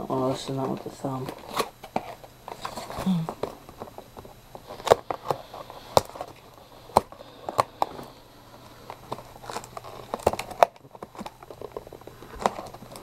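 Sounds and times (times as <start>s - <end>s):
box packaging clicking and crinkling: 0.3s - 13.0s.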